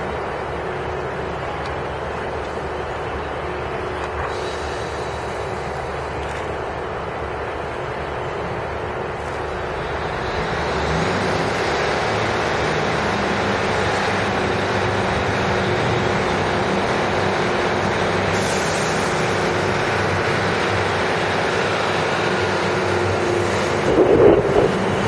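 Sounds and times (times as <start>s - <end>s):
diesel train engine drone: 0.0s - 25.0s.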